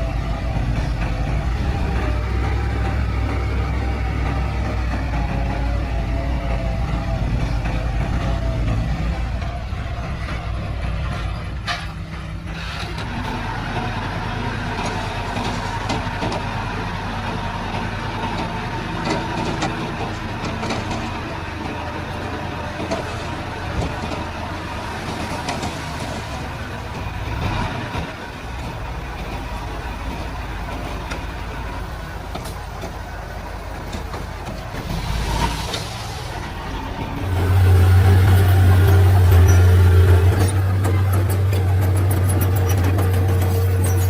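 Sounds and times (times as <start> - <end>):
bulldozer diesel engine running: 0.0 - 44.0.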